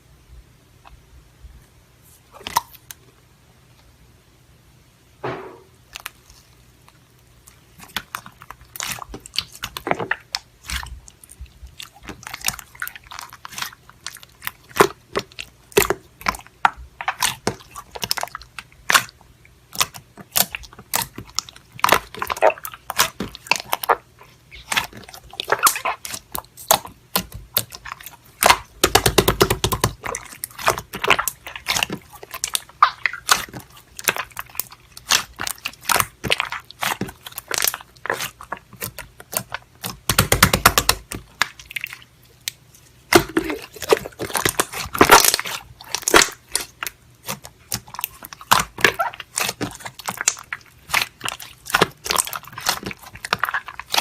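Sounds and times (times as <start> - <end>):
chewing with crunching: 6.0 - 54.0.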